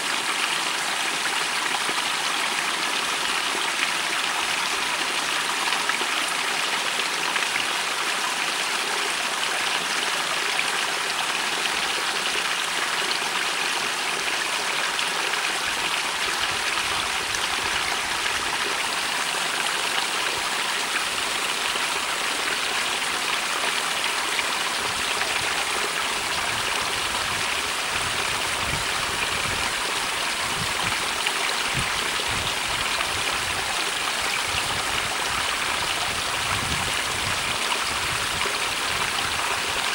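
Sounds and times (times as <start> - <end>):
stream rushing and trickling: 0.0 - 39.9.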